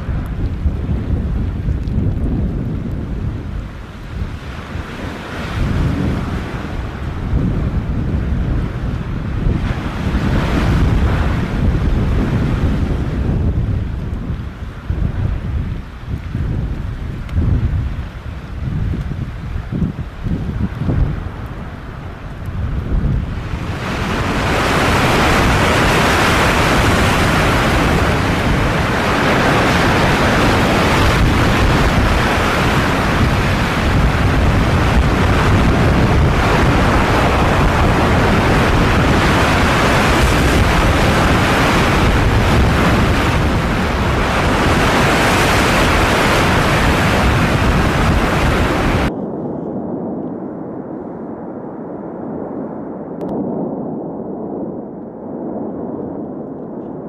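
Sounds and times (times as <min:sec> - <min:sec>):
loud steady rushing noise: 0:00.0 - 0:53.8
dull rumble: 0:00.0 - 0:57.0.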